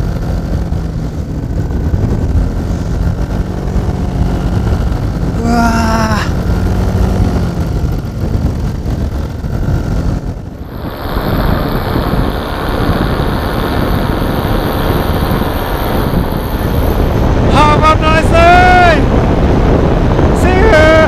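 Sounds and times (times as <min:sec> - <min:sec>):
paramotor engine drone: 0:00.0 - 0:21.0
wind rush on microphone: 0:00.0 - 0:21.0.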